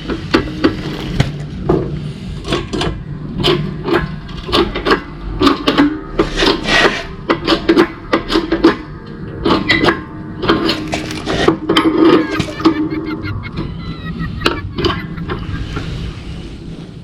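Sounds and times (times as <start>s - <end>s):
hand tools scraping and rubbing: 1.8s - 17.0s.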